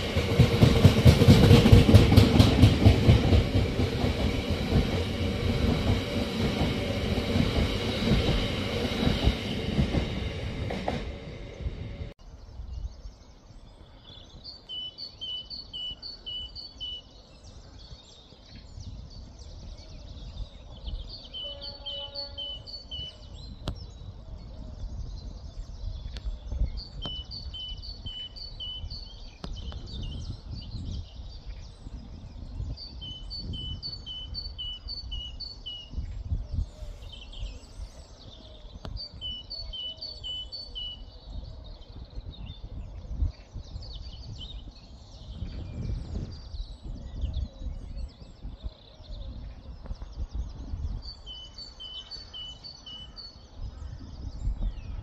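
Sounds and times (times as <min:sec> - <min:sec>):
songbird singing: 0:00.0 - 0:55.0.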